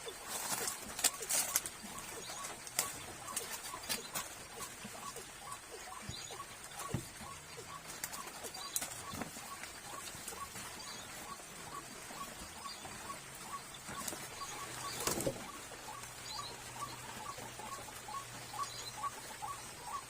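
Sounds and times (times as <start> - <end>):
small animal chirping: 0.0 - 20.0.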